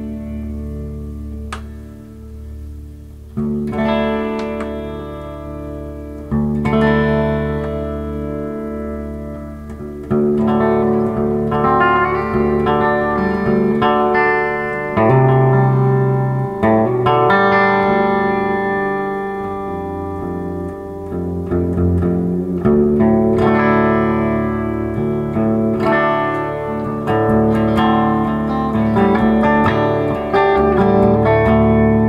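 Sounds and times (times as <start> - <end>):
electric guitar chords ringing: 0.0 - 32.0.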